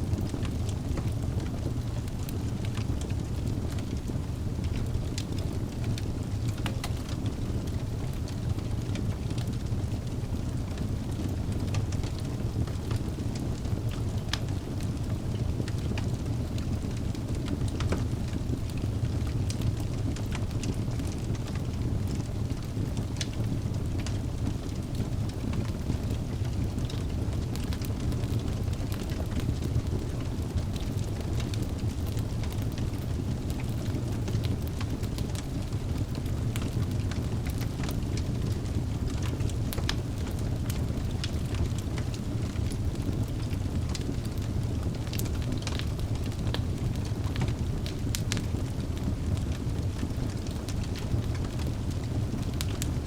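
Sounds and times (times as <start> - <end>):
burning logs crackling and popping: 0.0 - 53.0
fire flames rumbling: 0.0 - 53.0.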